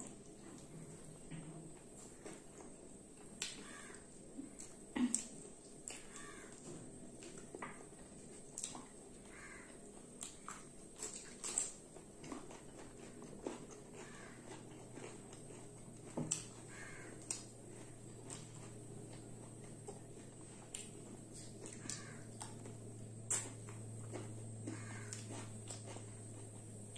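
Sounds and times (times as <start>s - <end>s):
people chewing and lip smacking: 0.0s - 26.9s.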